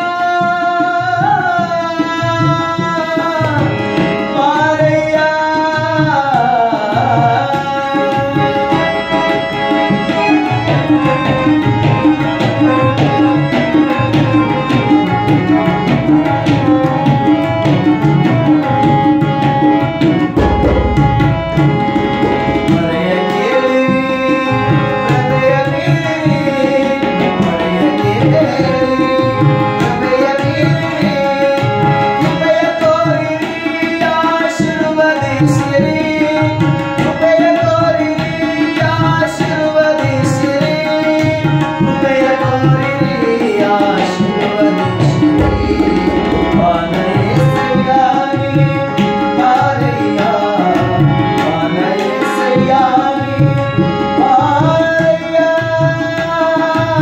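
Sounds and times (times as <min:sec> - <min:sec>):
harmonium chords and melody: 0:00.0 - 0:57.0
tabla drumming: 0:00.0 - 0:57.0.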